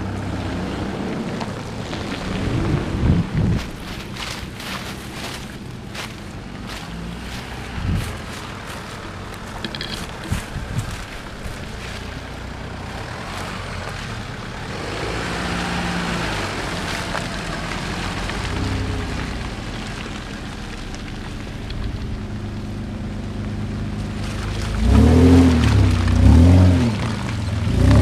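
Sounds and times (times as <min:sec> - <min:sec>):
off-road engines running: 0:00.0 - 0:28.0.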